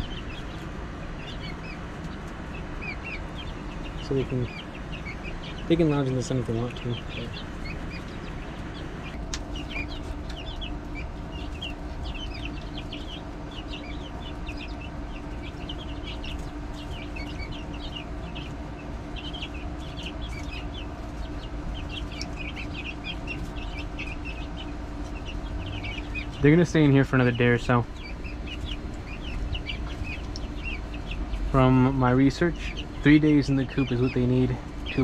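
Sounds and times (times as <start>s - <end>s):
chicks peeping: 0.0s - 35.0s
steady low hum: 0.0s - 35.0s.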